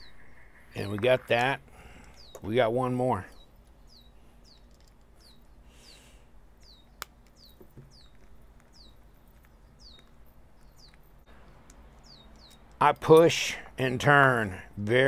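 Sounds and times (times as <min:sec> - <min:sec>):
small bird chirping: 0:00.0 - 0:13.2.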